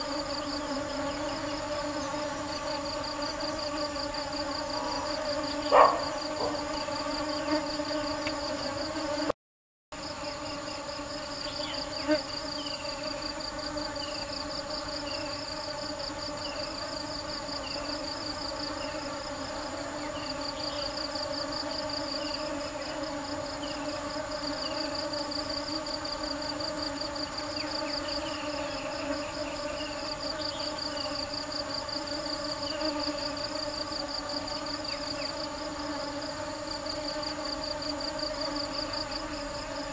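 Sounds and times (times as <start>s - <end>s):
high insect trill: 0.0s - 9.3s, 10.0s - 39.9s
honeybees buzzing: 0.0s - 9.4s, 10.0s - 39.9s.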